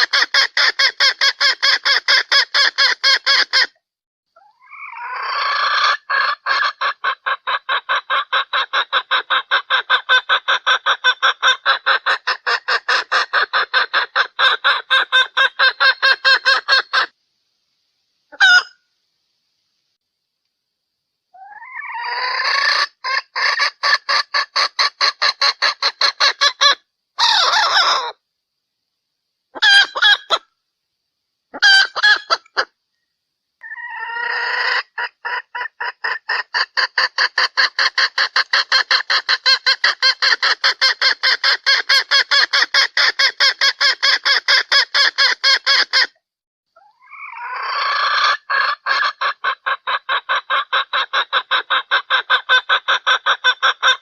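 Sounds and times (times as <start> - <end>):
junglefowl hen clucking: 0.0 - 3.8, 4.4 - 17.2, 18.3 - 18.8, 21.4 - 28.2, 29.6 - 30.5, 31.5 - 32.8, 33.6 - 46.2, 46.8 - 54.0.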